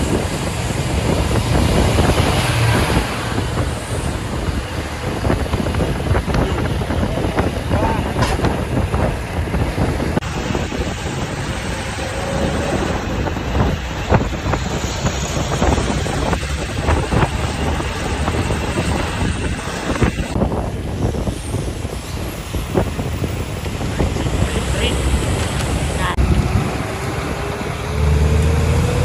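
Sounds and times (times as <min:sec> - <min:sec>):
truck engine and road noise: 0:00.0 - 0:29.0
wind buffeting microphone: 0:00.0 - 0:29.0.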